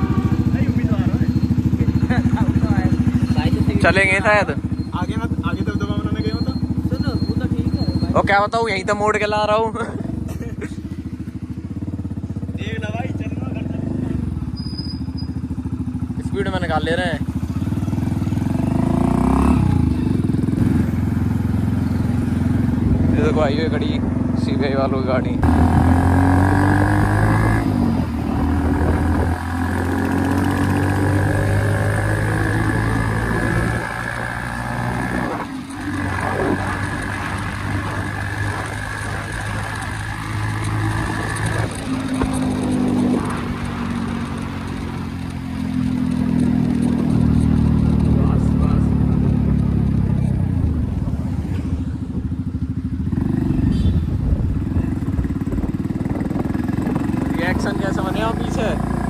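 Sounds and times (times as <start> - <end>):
motorcycle engine running loud: 0.0 - 59.0.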